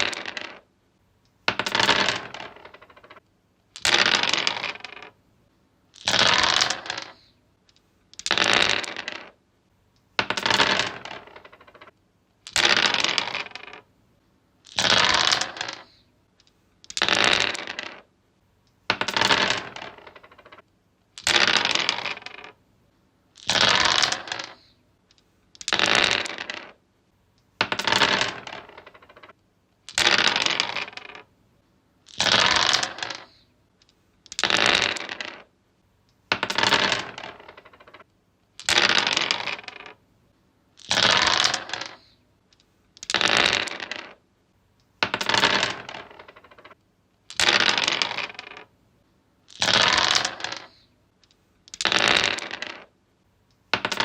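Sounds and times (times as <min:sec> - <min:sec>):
dice clattering on wood: 0:00.0 - 0:00.7, 0:01.4 - 0:05.2, 0:05.9 - 0:09.4, 0:10.2 - 0:13.9, 0:14.6 - 0:18.1, 0:18.8 - 0:22.6, 0:23.4 - 0:26.8, 0:27.4 - 0:31.3, 0:32.0 - 0:35.5, 0:36.2 - 0:40.0, 0:40.8 - 0:44.2, 0:44.9 - 0:48.7, 0:49.5 - 0:54.0.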